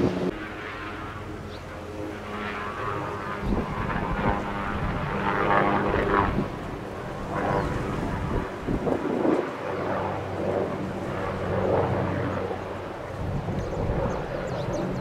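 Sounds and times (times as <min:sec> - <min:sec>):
airplane engines whining: 0:00.0 - 0:15.0.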